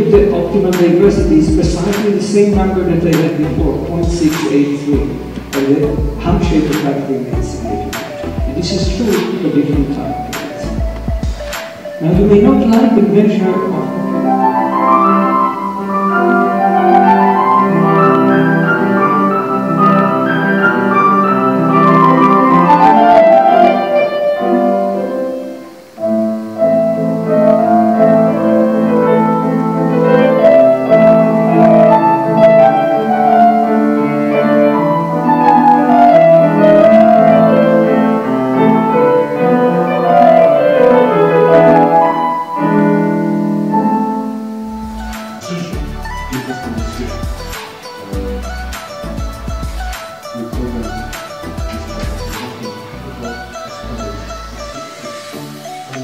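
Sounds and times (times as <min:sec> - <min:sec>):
solo piano piece: 0:00.0 - 0:56.0.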